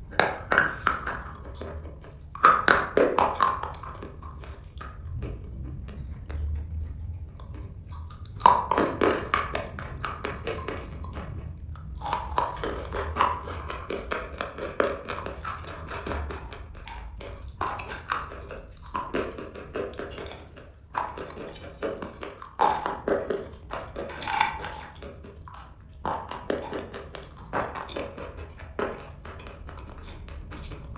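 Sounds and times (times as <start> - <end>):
crunching and chewing chalk: 0.0 - 30.9.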